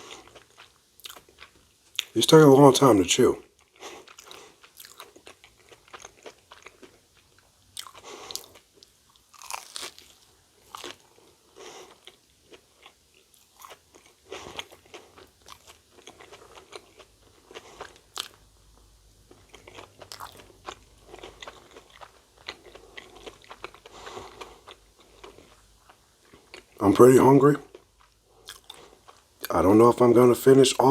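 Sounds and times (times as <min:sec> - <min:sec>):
person crunching and chewing food: 0:00.0 - 0:30.9.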